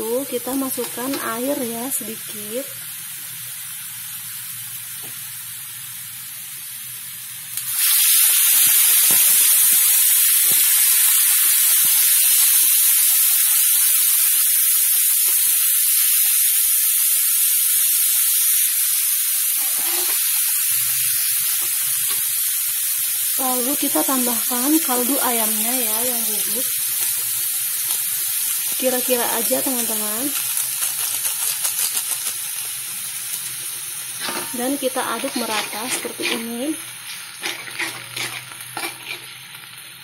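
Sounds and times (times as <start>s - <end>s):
food sizzling in oil: 0.0s - 40.0s
hot oil spitting and hissing: 0.0s - 40.0s.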